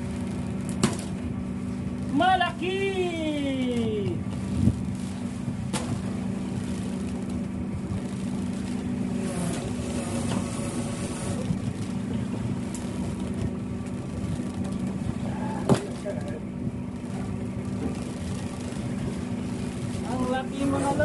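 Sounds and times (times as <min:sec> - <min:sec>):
boat machinery humming: 0:00.0 - 0:21.0.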